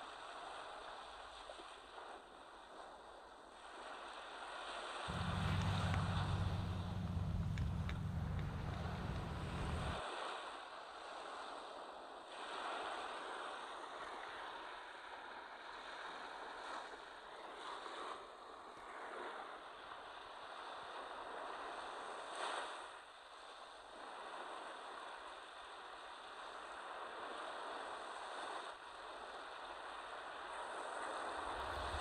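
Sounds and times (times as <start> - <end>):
waves washing on a beach: 0.0 - 32.0.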